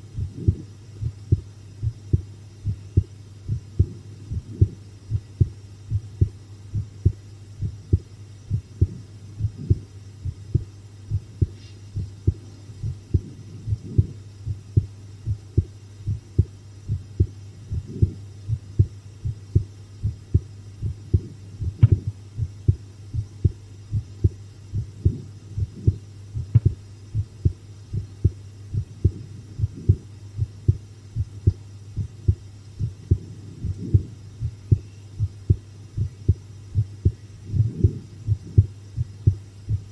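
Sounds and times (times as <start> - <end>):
heartbeat thumps: 0.0 - 39.9
low hum: 0.0 - 39.9.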